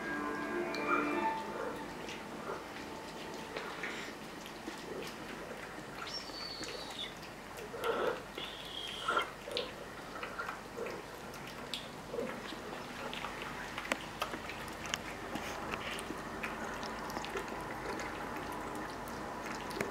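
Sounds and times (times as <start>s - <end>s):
cat chewing and licking: 1.4s - 8.6s, 9.2s - 19.9s.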